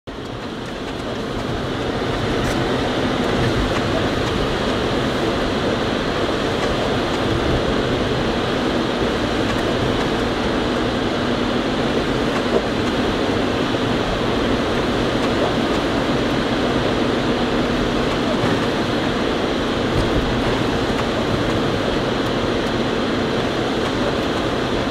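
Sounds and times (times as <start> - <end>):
tyres hissing on wet road: 0.2 - 24.9.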